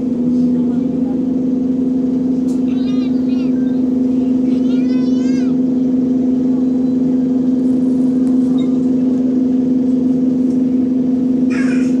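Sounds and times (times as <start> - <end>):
bus air compressor droning hum: 0.0 - 12.0.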